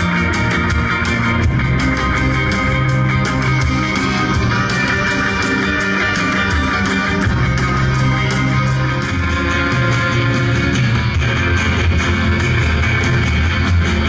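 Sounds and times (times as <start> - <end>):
bass guitar: 0.0 - 14.0
electric guitar: 0.0 - 14.0
live rock band playing: 0.0 - 14.0.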